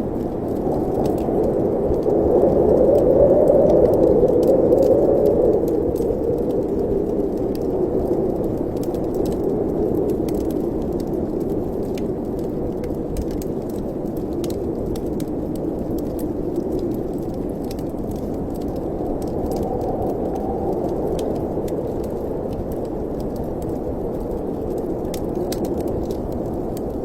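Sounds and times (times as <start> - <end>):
faint crackles: 0.0 - 27.0
wind rushing through chimney: 0.0 - 27.0.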